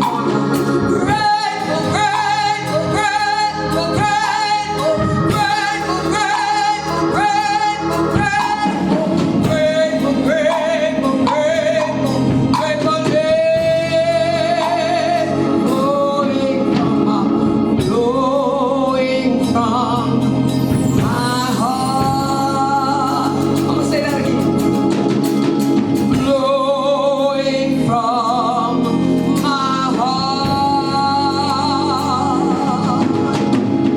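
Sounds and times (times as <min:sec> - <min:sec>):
gospel lead vocal with vibrato: 0:00.0 - 0:33.9
sustained musical backing: 0:00.0 - 0:33.9.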